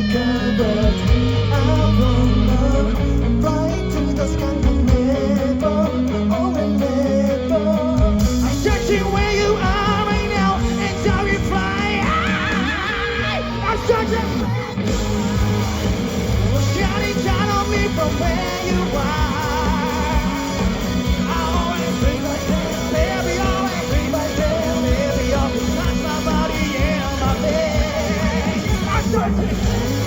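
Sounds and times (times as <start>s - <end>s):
live pop-rock band: 0.0s - 30.0s
person singing: 0.0s - 30.0s.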